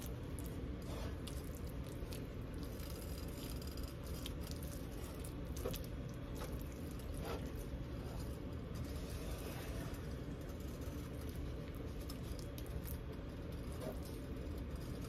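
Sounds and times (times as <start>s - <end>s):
spoon squishing thick dip: 0.0s - 14.7s
steady low hum: 0.0s - 15.0s.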